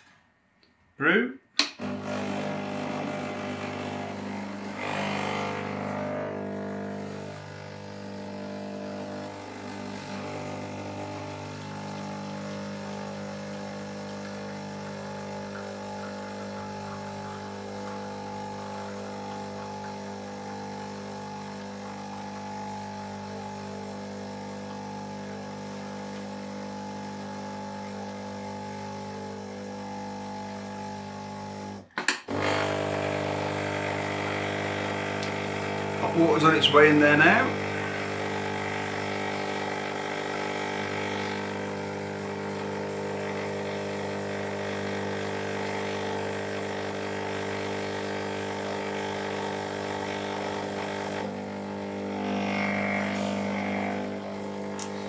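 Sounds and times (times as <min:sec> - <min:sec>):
espresso machine pump humming: 0:01.7 - 0:55.0.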